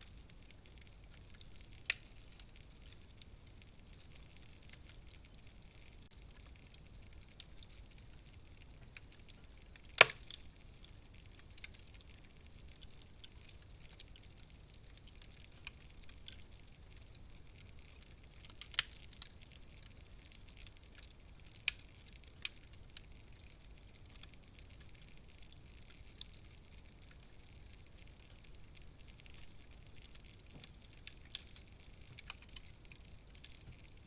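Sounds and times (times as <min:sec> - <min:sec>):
faint steady hiss: 0:00.0 - 0:34.0
wood fire crackling: 0:00.0 - 0:34.0.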